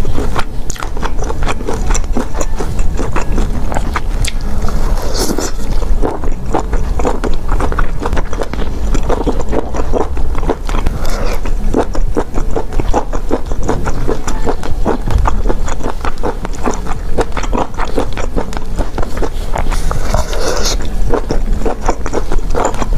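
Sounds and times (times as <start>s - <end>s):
person chewing and sucking seafood: 0.0s - 22.9s.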